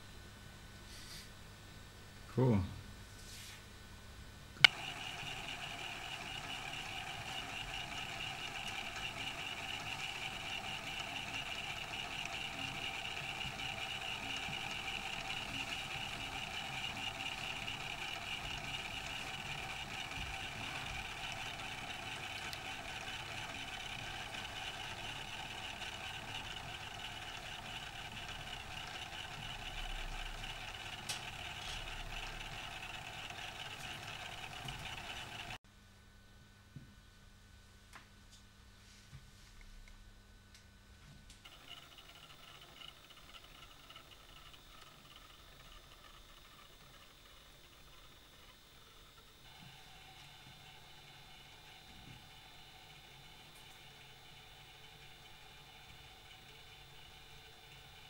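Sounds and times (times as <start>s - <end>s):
phonograph mechanism whirring: 4.6s - 35.6s, 41.4s - 58.0s.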